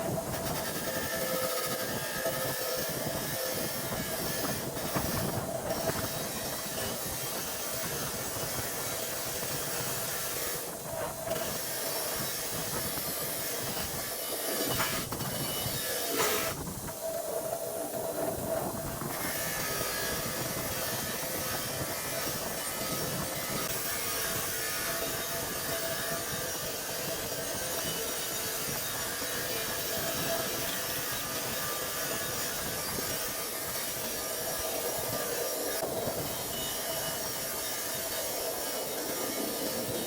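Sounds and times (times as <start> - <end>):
hiss: 0.0 - 40.0
steady machine whir: 0.0 - 40.0.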